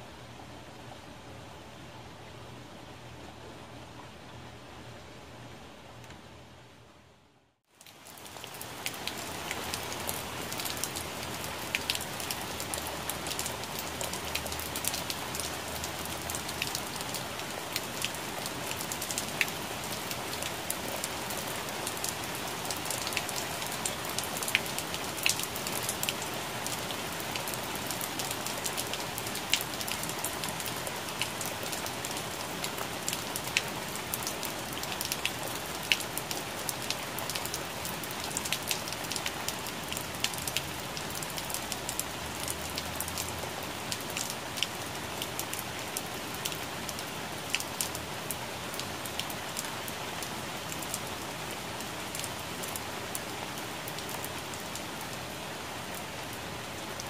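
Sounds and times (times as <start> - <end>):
rain falling on leaves: 7.6 - 57.0.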